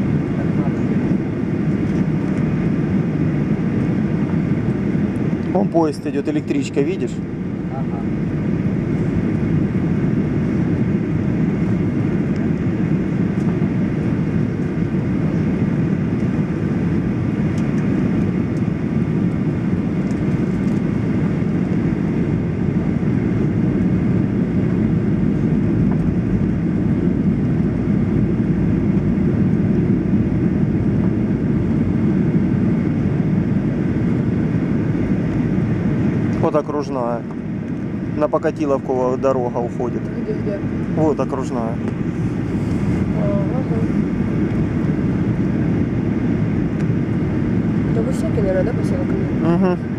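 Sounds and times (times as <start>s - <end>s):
airflow over fuselage: 0.0s - 49.9s
airplane cabin engine rumble: 0.0s - 49.9s.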